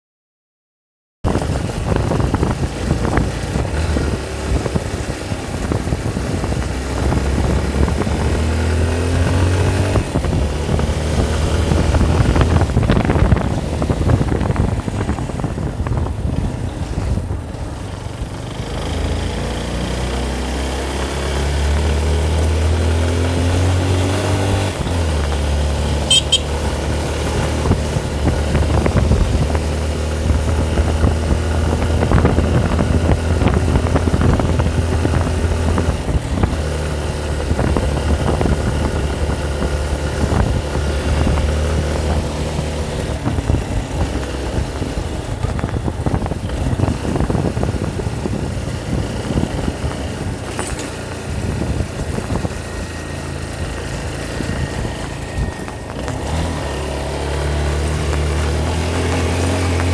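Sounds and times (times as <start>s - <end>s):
vehicle engine accelerating: 1.3s - 59.9s.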